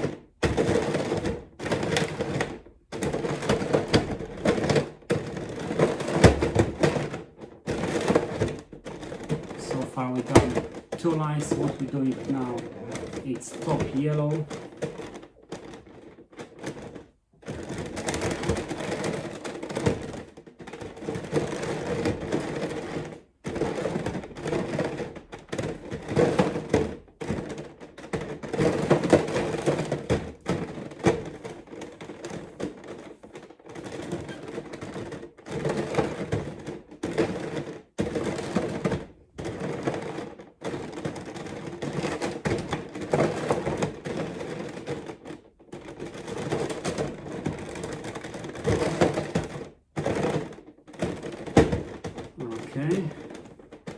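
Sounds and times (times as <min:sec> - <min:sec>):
plastic puzzle cube clacking: 0:00.0 - 0:53.9.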